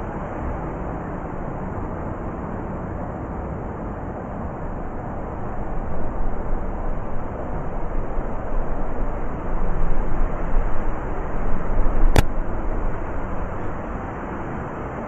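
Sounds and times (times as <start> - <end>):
gusting blizzard wind: 0.0 - 15.0.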